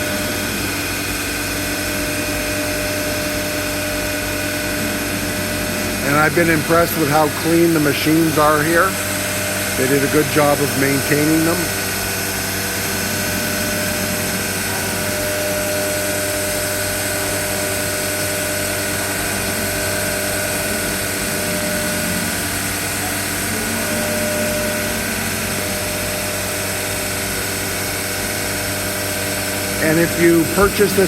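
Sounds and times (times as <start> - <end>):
low motor tone: 0.0 - 31.0
machine hum: 0.0 - 31.0.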